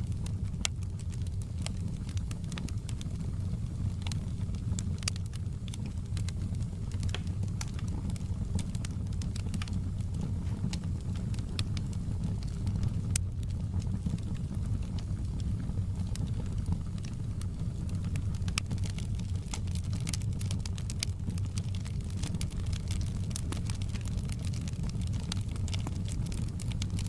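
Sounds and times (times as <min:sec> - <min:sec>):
campfire flames roaring: 0:00.0 - 0:27.0
wood crackling and popping: 0:00.0 - 0:27.0.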